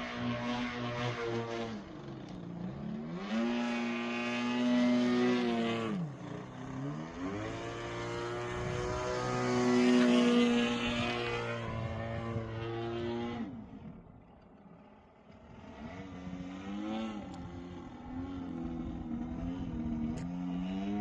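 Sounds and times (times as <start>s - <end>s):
model plane engine in flight: 0.0s - 21.0s.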